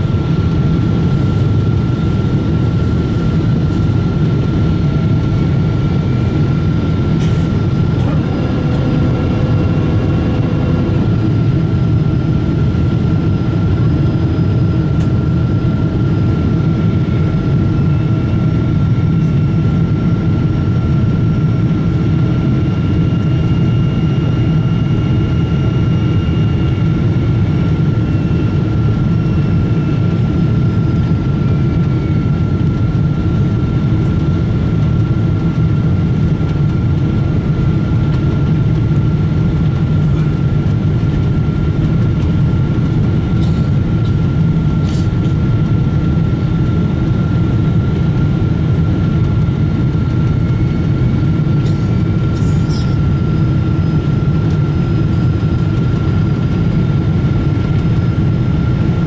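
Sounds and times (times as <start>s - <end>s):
jet engines and airflow rushing: 0.0s - 59.0s.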